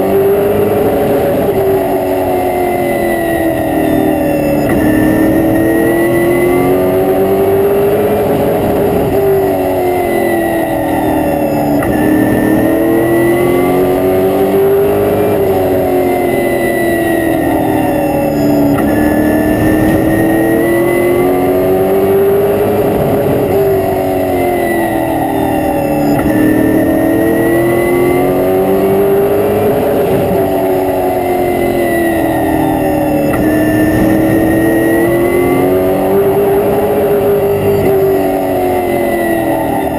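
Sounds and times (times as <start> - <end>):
race car engine revving: 0.0 - 39.9
road and wind noise: 0.0 - 39.9.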